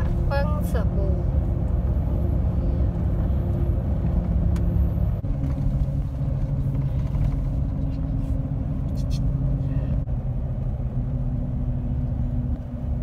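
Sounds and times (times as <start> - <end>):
road noise inside cab: 0.0 - 13.0
truck engine rumbling: 0.0 - 13.0.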